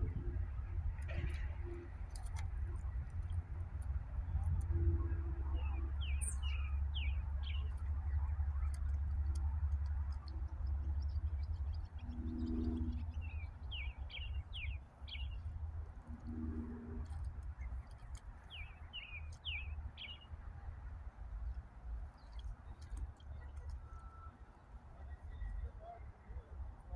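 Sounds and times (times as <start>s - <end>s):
steady low rumble: 0.0s - 26.9s.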